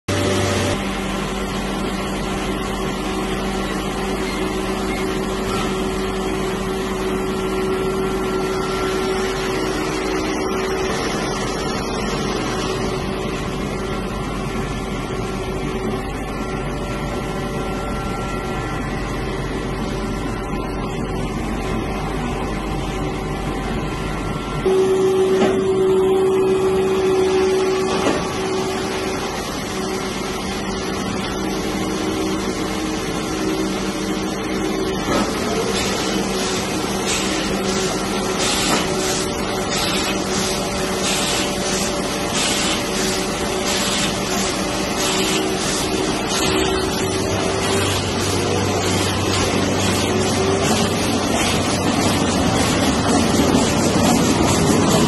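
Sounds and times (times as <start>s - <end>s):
offset press mechanical hum: 0.1s - 55.0s.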